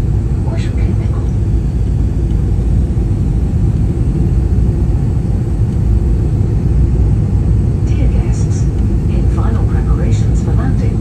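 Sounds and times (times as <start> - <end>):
jet cabin engine rumble: 0.0 - 11.0.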